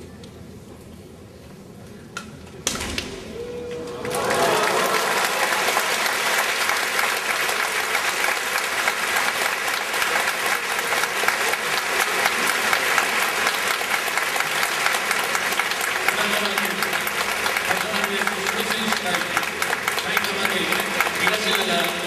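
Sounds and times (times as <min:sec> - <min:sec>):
audience applauding: 0:03.6 - 0:22.0.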